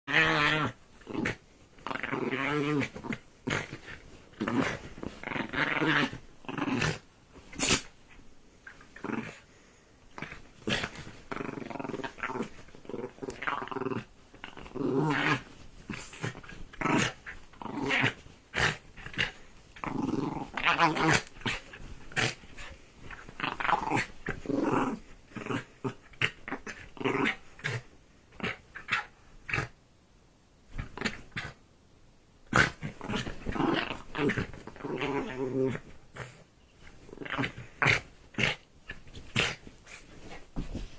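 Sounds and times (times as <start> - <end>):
dog growling: 0.1 - 7.0, 8.7 - 9.5, 10.1 - 29.8, 32.5 - 40.9.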